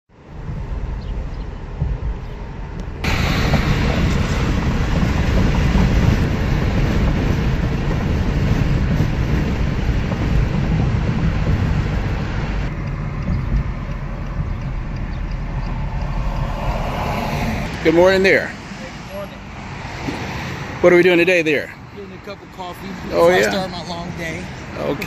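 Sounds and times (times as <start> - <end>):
rumbling vehicle road noise: 0.1 - 25.0.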